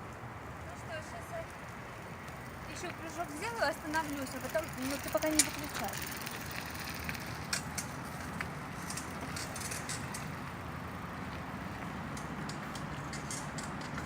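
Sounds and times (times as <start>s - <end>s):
outdoor background noise: 0.0s - 14.0s
faint clicks and ticks: 1.5s - 10.6s, 11.3s - 14.0s.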